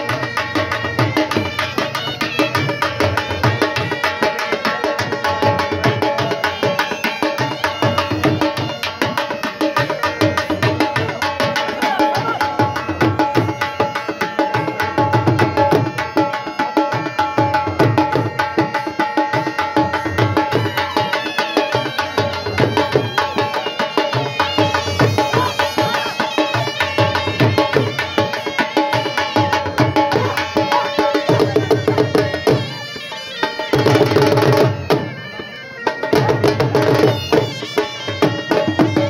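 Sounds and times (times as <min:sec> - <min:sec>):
dhol drum beating: 0:00.0 - 0:39.0
reed pipe melody: 0:05.6 - 0:39.0.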